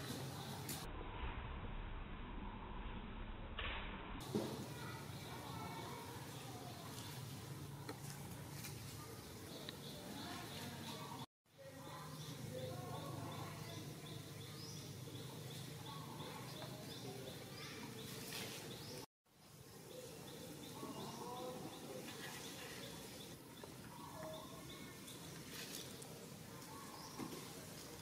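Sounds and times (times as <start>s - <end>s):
faint outdoor ambience: 0.0s - 3.5s, 4.1s - 28.0s.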